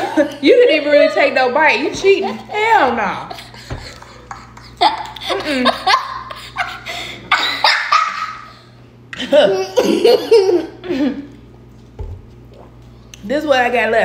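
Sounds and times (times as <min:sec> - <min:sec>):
girl laughing: 0:00.0 - 0:11.3.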